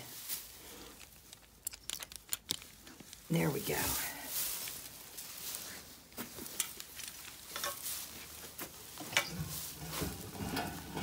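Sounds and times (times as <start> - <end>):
straw rustling and crackling: 0.0 - 11.0.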